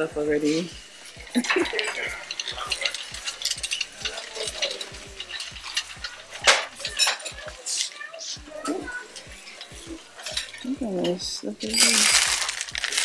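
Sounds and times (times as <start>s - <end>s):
shopping cart rattling: 0.0s - 13.0s.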